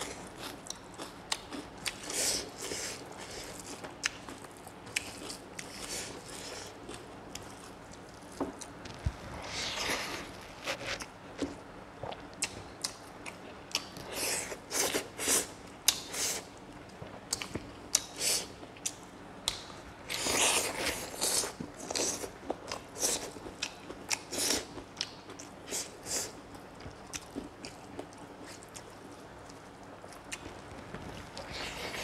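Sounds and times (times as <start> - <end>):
man chewing food: 0.0 - 32.0.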